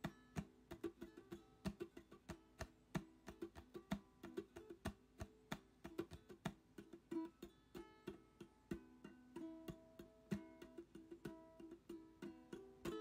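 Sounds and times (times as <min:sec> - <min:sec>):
plucked acoustic guitar melody: 0:00.0 - 0:13.0.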